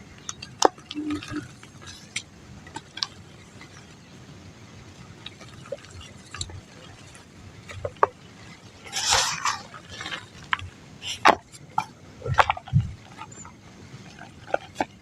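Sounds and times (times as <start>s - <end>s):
dry mud crumbling: 0.0s - 4.2s, 4.8s - 15.0s.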